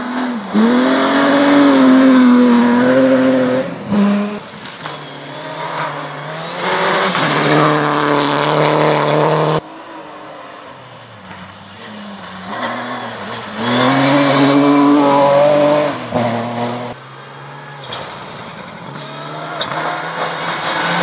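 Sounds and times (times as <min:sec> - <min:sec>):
rally car engine at high revs: 0:00.0 - 0:21.0
rally car passing close: 0:00.0 - 0:21.0.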